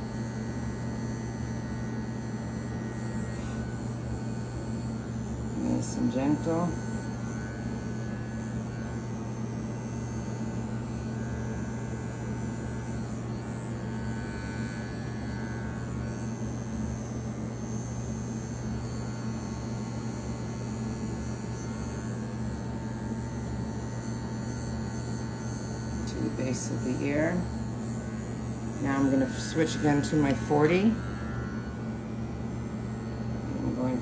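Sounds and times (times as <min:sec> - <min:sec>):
dog clipper humming: 0:00.0 - 0:34.0.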